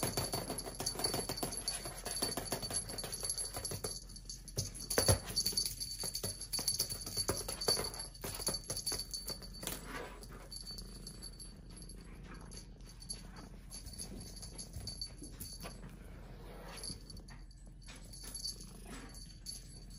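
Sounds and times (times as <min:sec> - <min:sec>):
cat toy jingling and rattling: 0:00.0 - 0:19.9.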